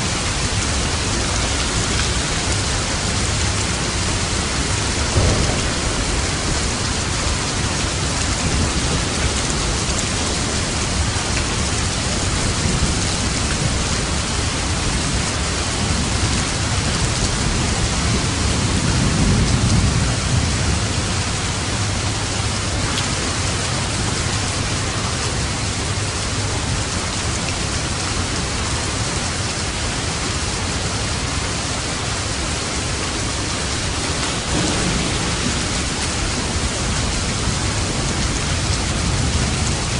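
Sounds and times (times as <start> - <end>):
thunder rumbling: 0.0 - 28.5, 32.4 - 39.9
steady rain: 0.0 - 39.9.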